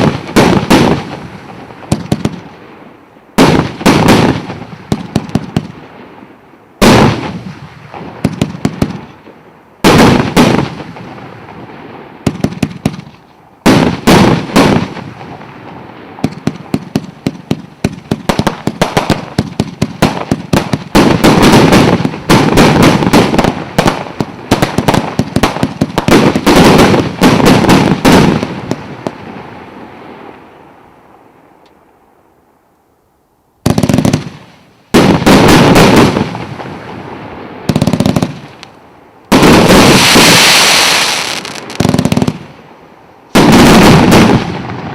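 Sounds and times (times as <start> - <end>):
firework barrage cracking: 0.0 - 6.2, 6.8 - 30.6, 33.6 - 44.9.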